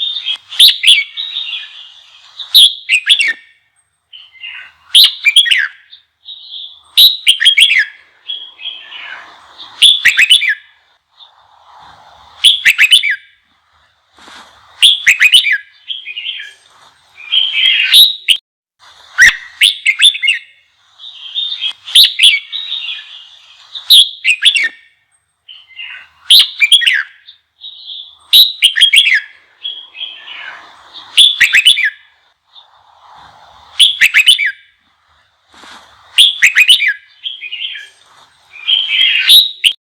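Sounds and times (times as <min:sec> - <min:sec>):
bird whistled song phrases: 0:00.0 - 0:11.4, 0:12.4 - 0:13.4, 0:14.8 - 0:18.4, 0:19.1 - 0:33.1, 0:33.7 - 0:34.8, 0:36.1 - 0:39.8.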